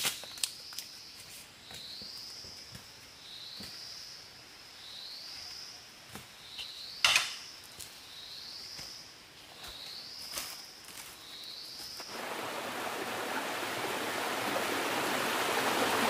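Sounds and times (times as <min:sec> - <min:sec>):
outdoor ambience: 0:00.0 - 0:16.0.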